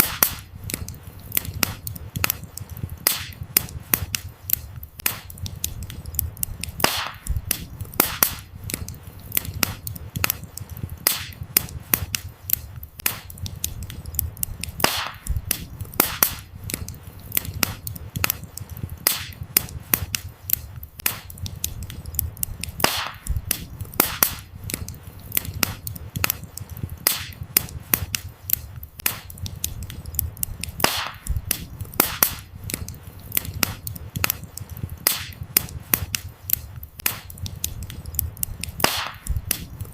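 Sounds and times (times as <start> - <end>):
firewood crackling and popping: 0.0 - 39.9
wood fire burning: 0.0 - 39.9.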